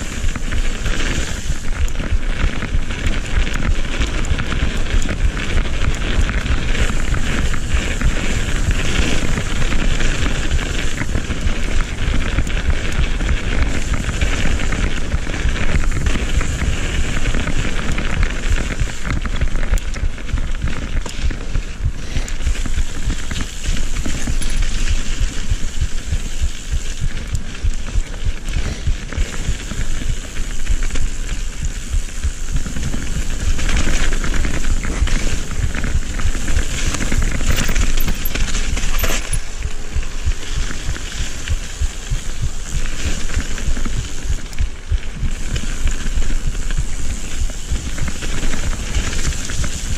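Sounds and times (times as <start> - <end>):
bike rattling: 0.0 - 49.9
tyres crackling across dirt: 0.0 - 49.9
wind buffeting microphone: 0.0 - 49.9.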